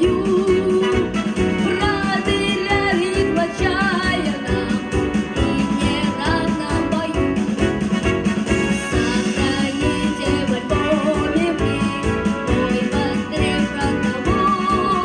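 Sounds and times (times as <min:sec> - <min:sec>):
person singing a melody: 0:00.0 - 0:07.4, 0:09.1 - 0:15.0
instrumental backing track with beat: 0:00.0 - 0:15.0.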